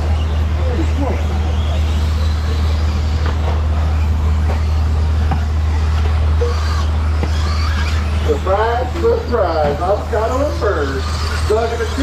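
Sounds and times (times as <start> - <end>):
faint motor whines: 0.0 - 12.0.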